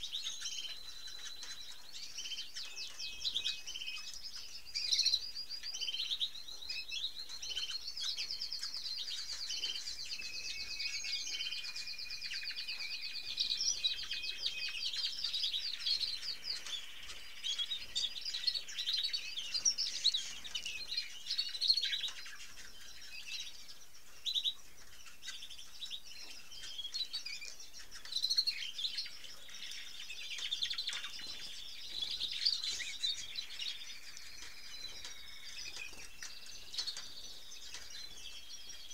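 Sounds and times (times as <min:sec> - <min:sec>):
canaries singing trills and chirps: 0:00.0 - 0:38.9.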